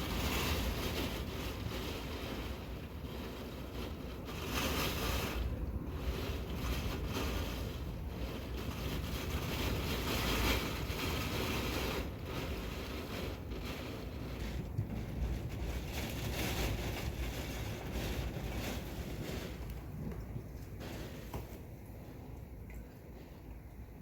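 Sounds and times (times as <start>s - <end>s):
strong wind gusts: 0.0s - 21.2s
wind buffeting microphone: 0.0s - 22.6s.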